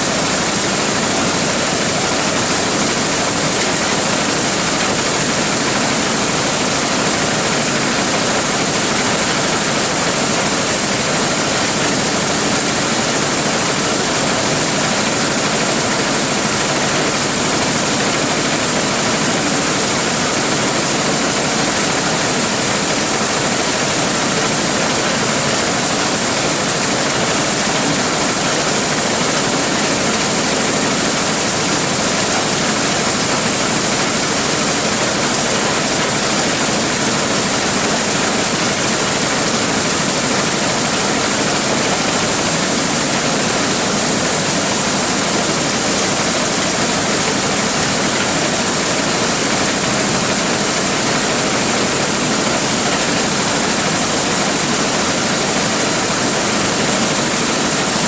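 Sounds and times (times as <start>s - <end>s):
corn thresher running: 0.0s - 58.0s.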